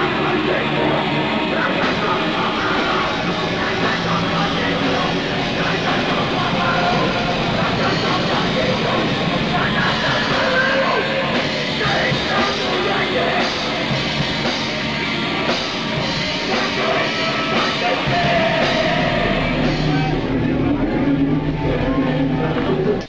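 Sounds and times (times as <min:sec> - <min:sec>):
distorted noise music: 0:00.0 - 0:23.0
people shouting and screaming: 0:00.0 - 0:23.0
steady low drone: 0:00.0 - 0:23.0.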